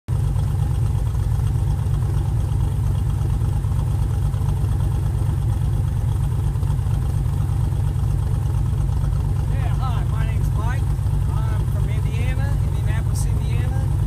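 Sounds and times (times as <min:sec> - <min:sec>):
truck engine running: 0:00.1 - 0:14.0.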